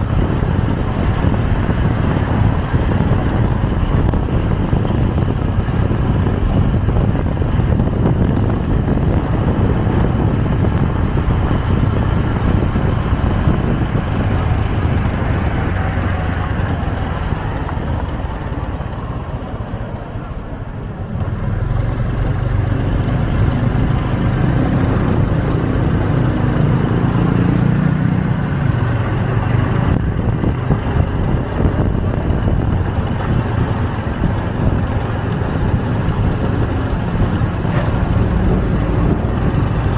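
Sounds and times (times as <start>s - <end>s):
motorbike engine running: 0.0s - 39.9s
wind rushing over microphone: 0.0s - 39.9s.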